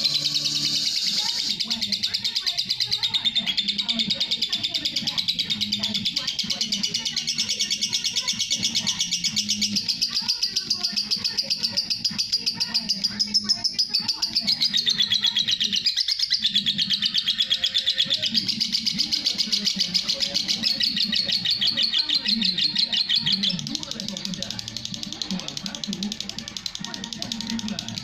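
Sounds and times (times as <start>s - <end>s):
lovebird chattering song: 0.0s - 28.0s.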